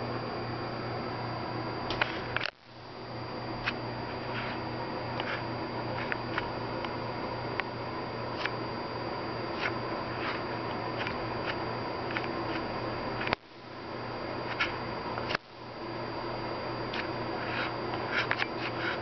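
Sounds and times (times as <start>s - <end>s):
steady hum and hiss: 0.0s - 19.0s.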